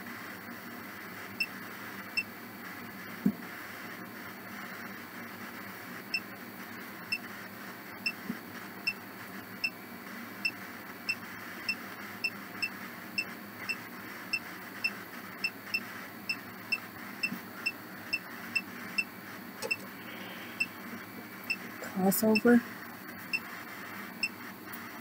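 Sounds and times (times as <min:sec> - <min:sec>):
static hiss: 0:00.0 - 0:25.0.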